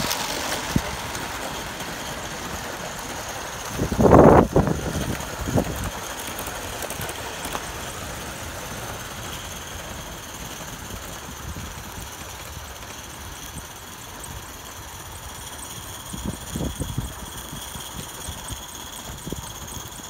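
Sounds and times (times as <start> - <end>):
steam exhaust chuffing: 0.0 - 20.0
wheels clicking on rails: 0.0 - 20.0.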